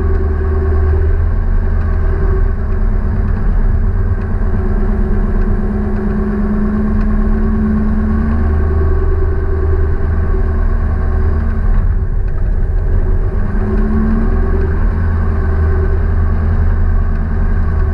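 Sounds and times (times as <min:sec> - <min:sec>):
vehicle engine rumbling: 0:00.0 - 0:17.9.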